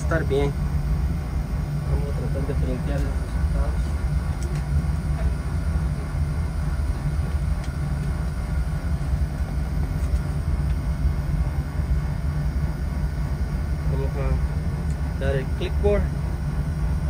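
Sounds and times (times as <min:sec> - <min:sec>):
boiler burner rumbling: 0:00.0 - 0:17.0.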